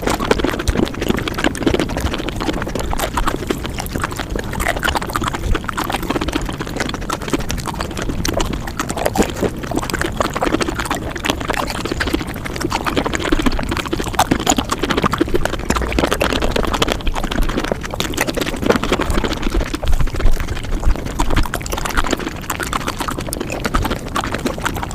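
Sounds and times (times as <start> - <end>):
sped-up chewing and mouth noises: 0.0 - 24.9.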